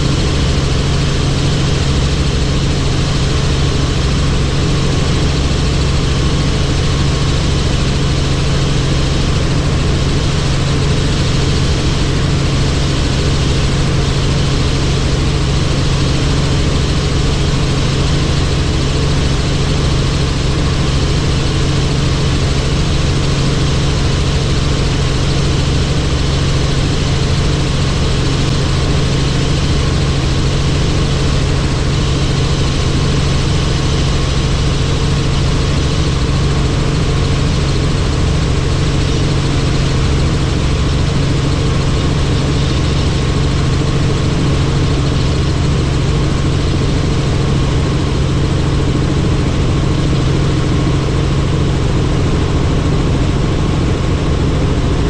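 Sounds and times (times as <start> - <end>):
helicopter running: 0.0 - 55.0.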